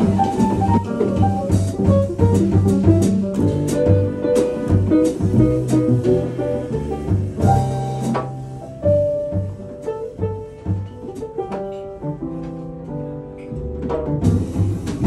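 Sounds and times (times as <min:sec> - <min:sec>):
jazz band playing: 0:00.0 - 0:15.0
jazz piano: 0:00.0 - 0:15.0
walking double bass: 0:00.0 - 0:15.0.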